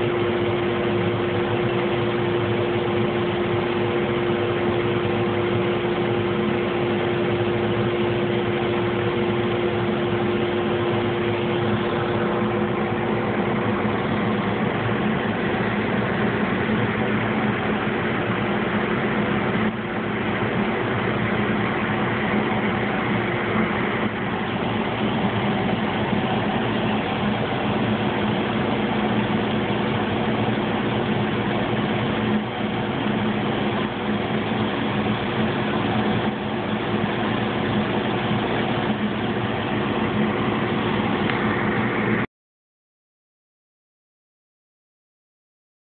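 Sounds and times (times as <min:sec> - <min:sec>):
laser cutter humming: 0:00.0 - 0:42.2.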